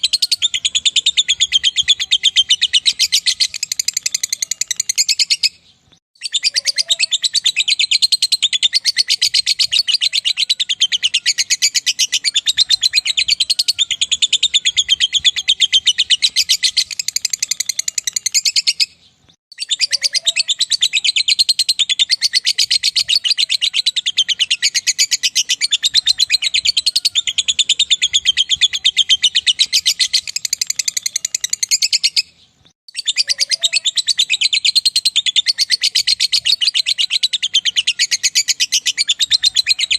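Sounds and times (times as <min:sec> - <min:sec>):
lovebird chattering trill: 0:00.0 - 0:05.6, 0:06.2 - 0:19.0, 0:19.6 - 0:39.9.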